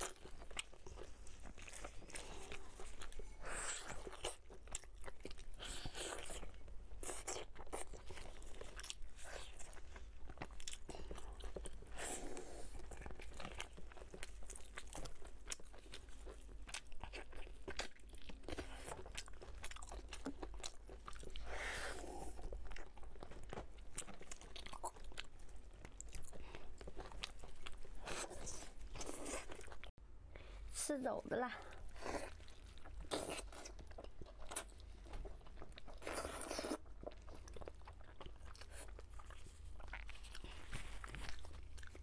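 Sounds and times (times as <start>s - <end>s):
close chewing and biting: 0.0s - 30.0s, 31.4s - 42.0s.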